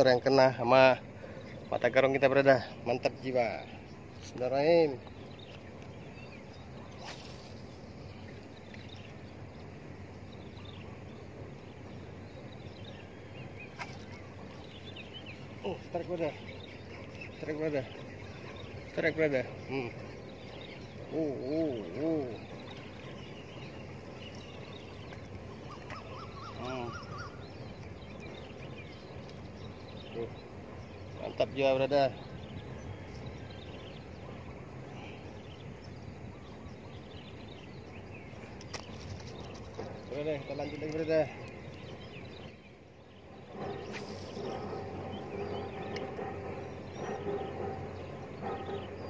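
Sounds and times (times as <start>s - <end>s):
outdoor background noise: 0.0s - 49.0s
faint bird chirps: 3.5s - 49.0s.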